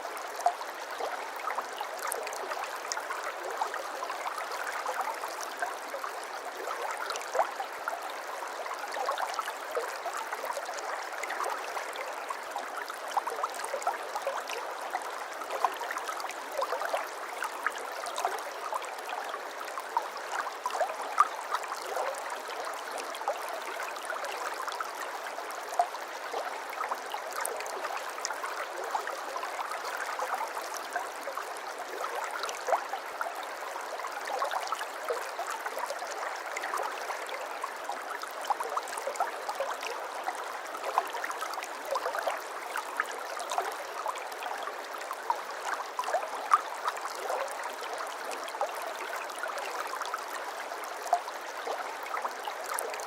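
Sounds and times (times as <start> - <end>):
water babbling over stones: 0.0 - 53.0.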